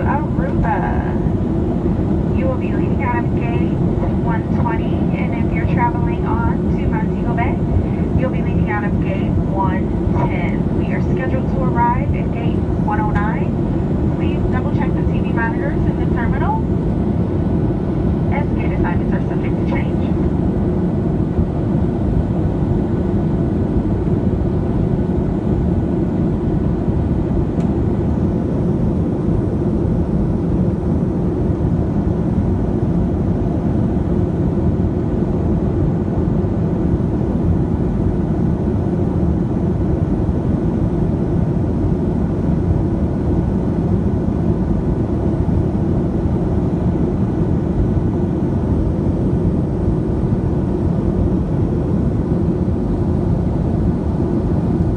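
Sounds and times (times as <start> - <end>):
airplane cabin drone: 0.0 - 54.9.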